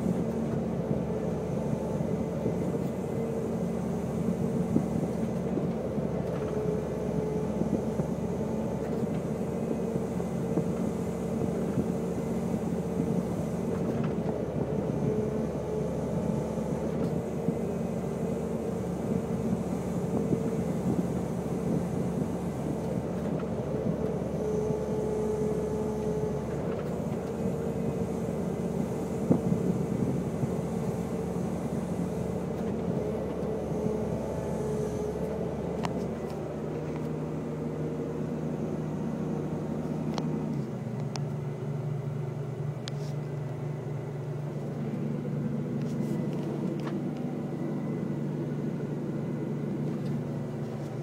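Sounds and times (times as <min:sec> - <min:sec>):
excavator diesel engine running: 0:00.0 - 0:51.0
hydraulic whine: 0:00.0 - 0:51.0.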